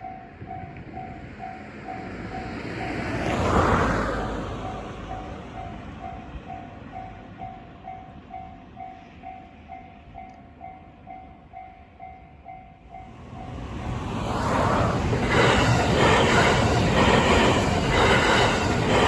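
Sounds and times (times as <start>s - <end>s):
electric train approaching: 0.0s - 19.0s
train passing: 0.0s - 19.0s.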